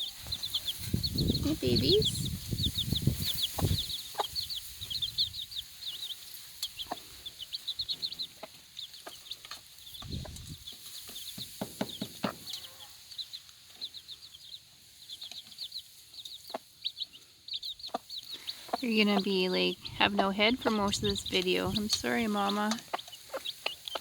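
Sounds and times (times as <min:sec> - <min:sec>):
chicks peeping: 0:00.0 - 0:24.0
hen clucking: 0:00.0 - 0:24.0.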